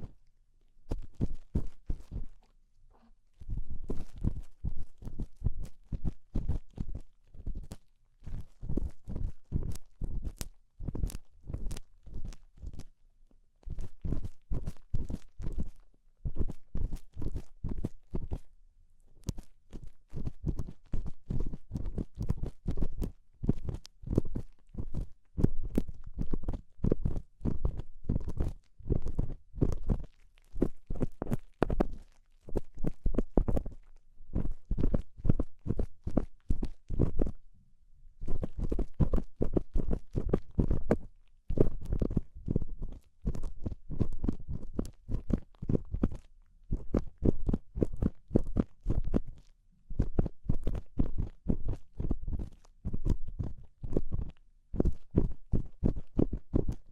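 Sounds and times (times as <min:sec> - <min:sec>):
scratching and rubbing on microphone: 0:00.0 - 0:00.2, 0:00.8 - 0:12.9, 0:13.6 - 0:18.5, 0:19.1 - 0:37.4, 0:38.2 - 0:56.9.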